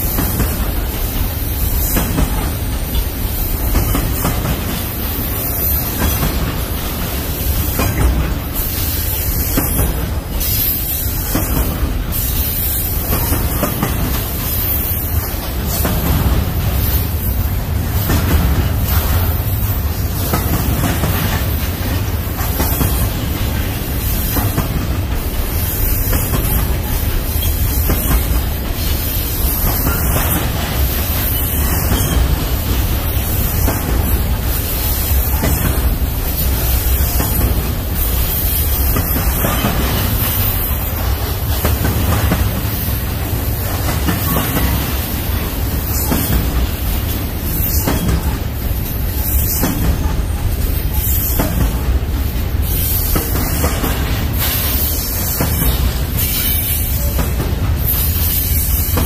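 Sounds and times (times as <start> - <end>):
freight train wheels rattling on rails: 0.0 - 59.0.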